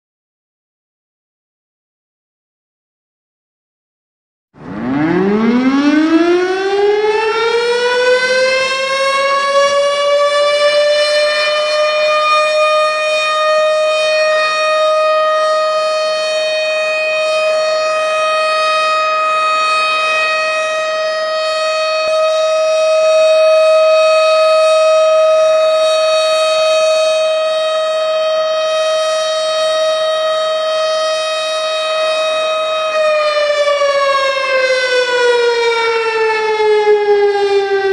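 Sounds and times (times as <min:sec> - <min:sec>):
siren winding up to a wail: 0:04.6 - 0:37.9.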